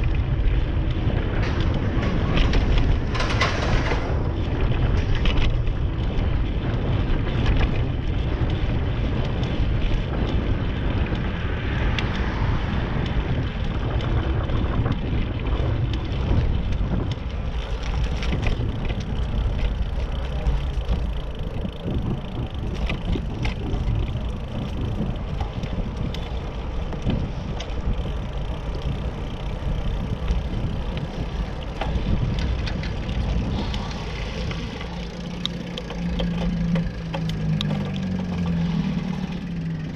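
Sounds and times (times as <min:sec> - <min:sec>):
bicycle knocks and rattles: 0:00.0 - 0:39.9
wind rushing over microphone: 0:00.0 - 0:39.9.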